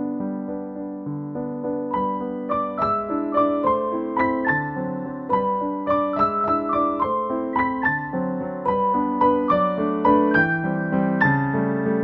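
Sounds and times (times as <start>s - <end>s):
gentle electric piano melody: 0.0s - 12.0s.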